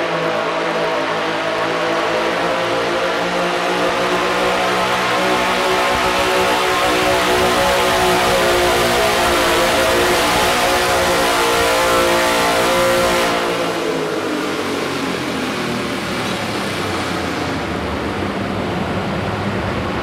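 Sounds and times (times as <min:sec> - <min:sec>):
garden tractor engine at full throttle: 0:00.0 - 0:18.0.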